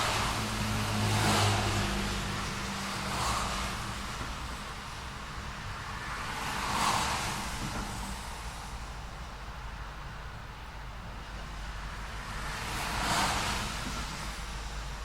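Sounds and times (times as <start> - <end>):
cars passing with tyre hiss: 0.0 - 15.0.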